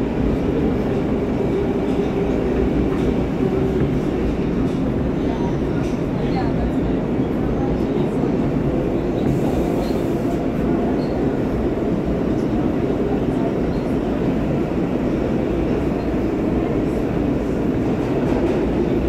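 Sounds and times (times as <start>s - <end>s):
subway car wheels rumbling on rails: 0.0s - 19.0s.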